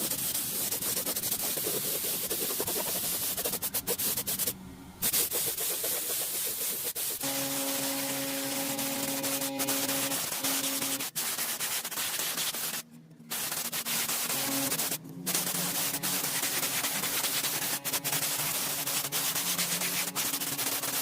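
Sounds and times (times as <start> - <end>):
abrasive sanding: 0.0 - 21.0.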